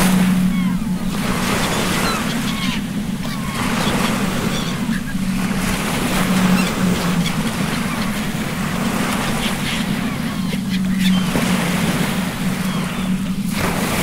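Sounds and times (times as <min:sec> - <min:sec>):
sea waves washing: 0:00.0 - 0:14.0
seabird calls: 0:00.0 - 0:14.0
steady low hum: 0:00.0 - 0:14.0
wind: 0:00.0 - 0:14.0.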